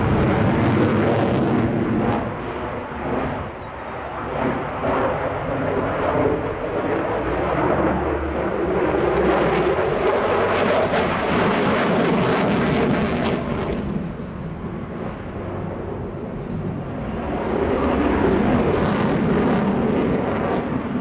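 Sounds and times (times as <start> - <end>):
jet engine rumble overhead: 0.0 - 21.0.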